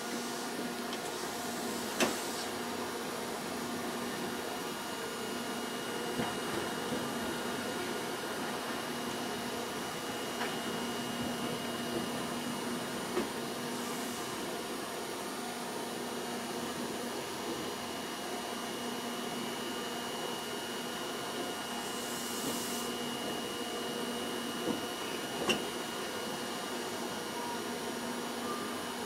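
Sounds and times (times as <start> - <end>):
tram mechanical hum: 0.0 - 29.0.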